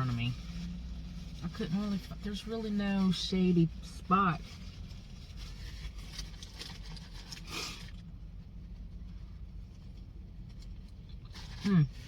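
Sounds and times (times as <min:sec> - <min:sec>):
faint rustling: 0:00.0 - 0:12.0
low hum inside car: 0:00.0 - 0:12.0.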